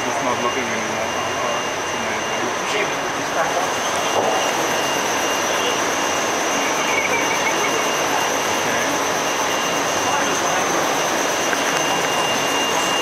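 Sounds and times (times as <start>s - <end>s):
high constant whine: 0.0s - 13.0s.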